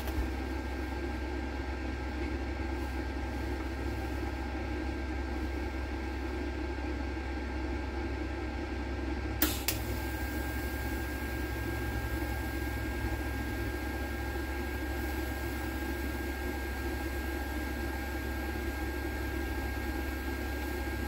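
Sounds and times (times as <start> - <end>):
welding machine humming: 0.0 - 6.6, 9.4 - 21.0.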